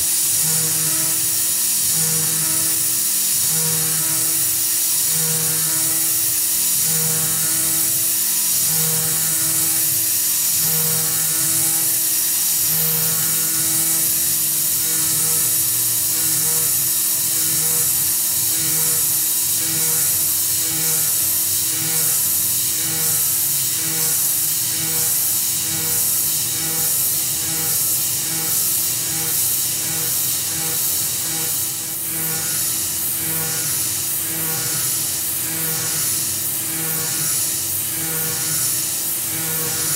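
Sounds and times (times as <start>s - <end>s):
coolant spray hiss: 0.0s - 39.9s
milling machine cutting whine: 0.0s - 39.9s.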